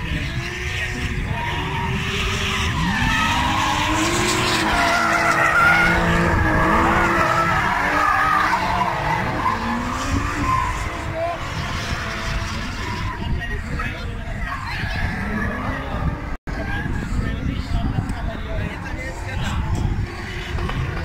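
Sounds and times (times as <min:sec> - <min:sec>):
car engines revving: 0:00.0 - 0:21.0
tyres skidding and squealing: 0:00.0 - 0:21.0.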